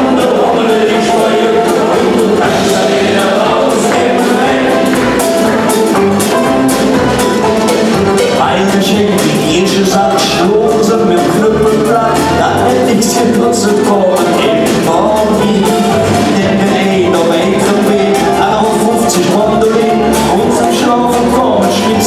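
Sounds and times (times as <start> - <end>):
men singing together: 0.0 - 5.8, 8.4 - 22.0
banjo: 0.0 - 22.0
drums: 0.0 - 22.0.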